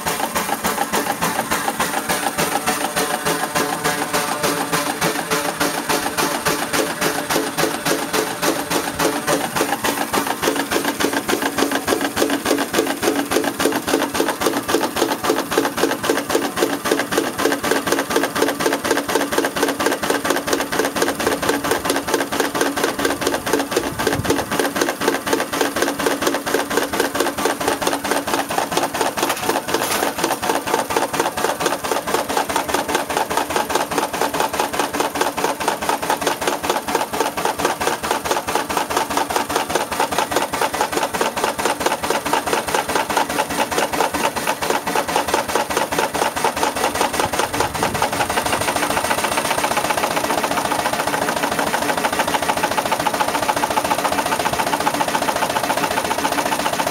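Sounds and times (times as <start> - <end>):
steam engine running: 0.0 - 56.9.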